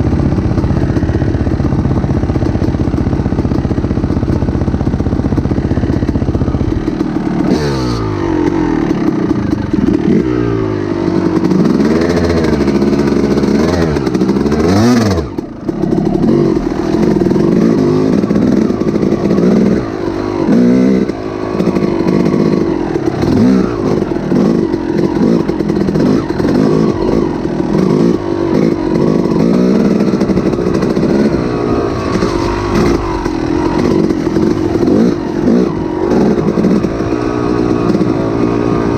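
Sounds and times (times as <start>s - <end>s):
small engine revving: 4.2s - 38.9s.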